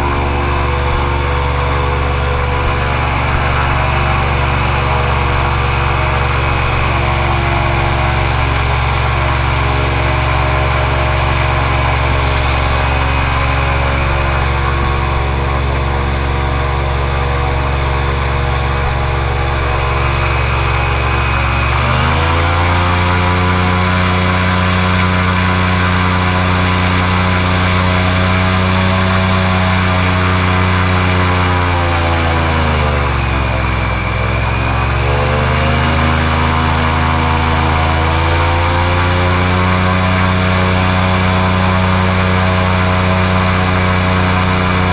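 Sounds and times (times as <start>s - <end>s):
airboat engine and propeller: 0.0s - 44.9s.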